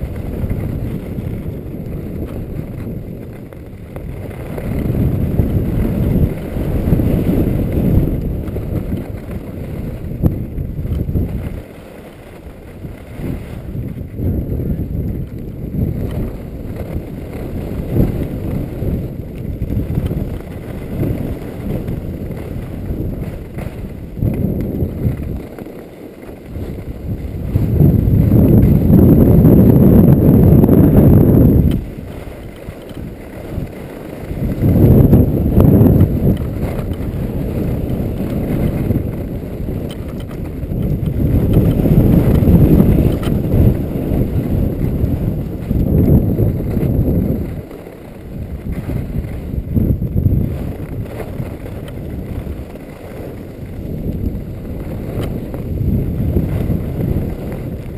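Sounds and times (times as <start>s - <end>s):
skis running over snow: 0.0s - 57.9s
wind buffeting microphone: 0.0s - 57.9s.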